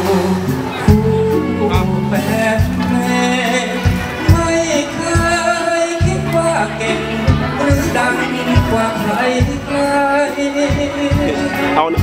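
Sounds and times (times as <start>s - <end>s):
song with bass and drums: 0.0s - 12.0s.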